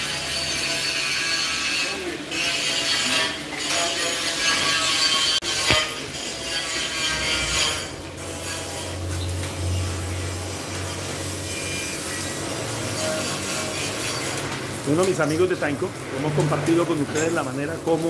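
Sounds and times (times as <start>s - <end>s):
welding arc crackling and hissing: 0.0s - 18.0s.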